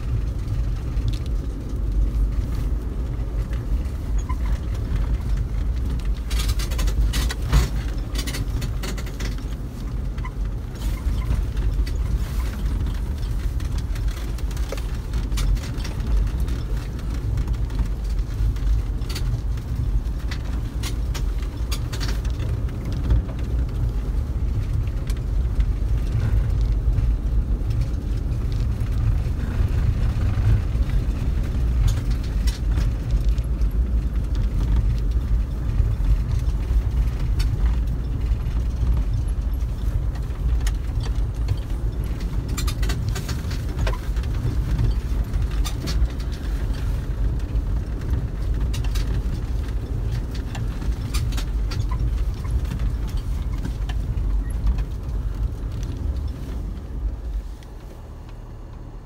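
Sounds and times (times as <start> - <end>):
vehicle rumbling over snow: 0.0 - 59.0.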